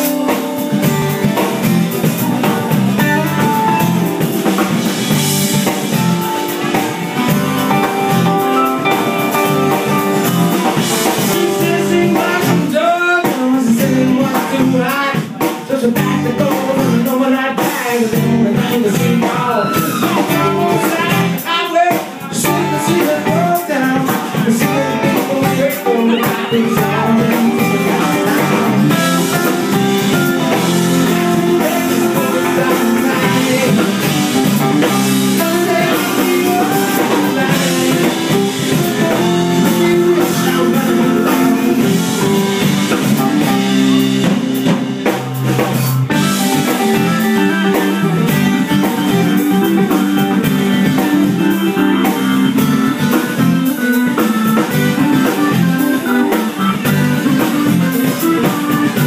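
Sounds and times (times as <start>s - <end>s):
dance music with guitar and drums: 0.0s - 59.0s.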